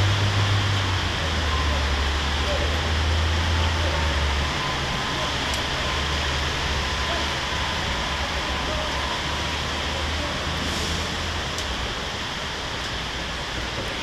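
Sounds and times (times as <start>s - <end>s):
city traffic rumble: 0.0s - 14.0s
heavy rain hissing: 0.0s - 14.0s.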